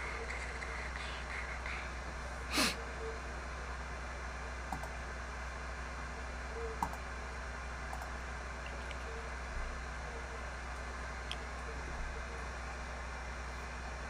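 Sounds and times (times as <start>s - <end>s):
background hiss and hum: 0.0s - 14.0s.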